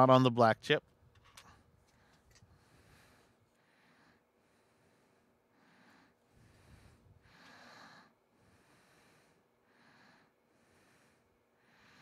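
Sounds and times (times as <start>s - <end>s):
faint breaths: 1.4s - 12.0s.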